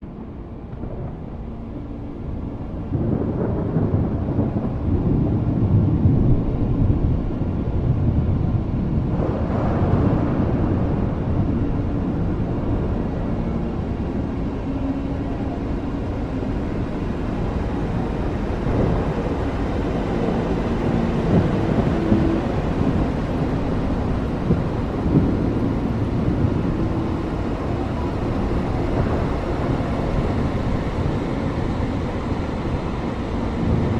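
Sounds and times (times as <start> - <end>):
steady rain: 0.0 - 33.9
deep rolling thunder: 0.2 - 33.9.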